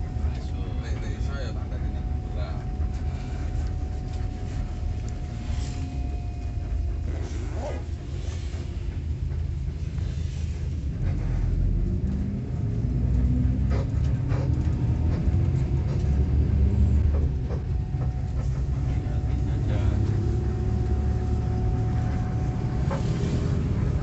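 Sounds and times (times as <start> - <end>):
bus engine and road noise: 0.0 - 24.0.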